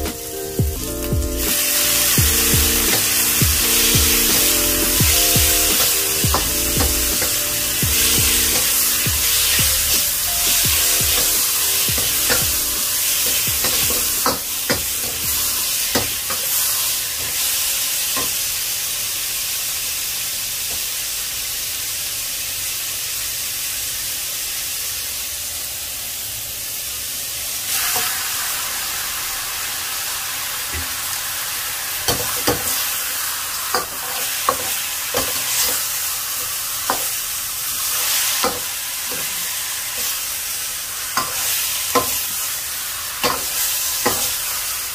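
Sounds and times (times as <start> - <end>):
food sizzling in a wok: 0.0 - 44.9.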